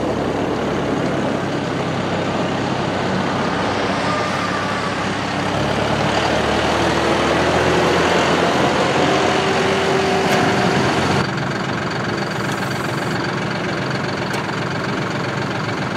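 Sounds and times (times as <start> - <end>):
faint engine whine: 0.0 - 15.9
tractor diesel engine driving past: 0.0 - 15.9.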